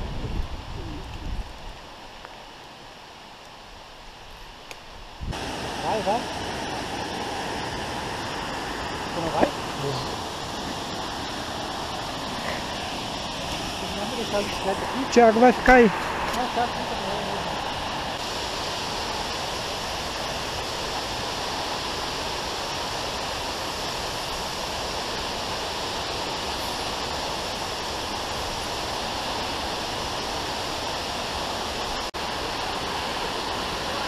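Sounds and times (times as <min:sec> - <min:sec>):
waterfall rushing: 0:04.9 - 0:34.0.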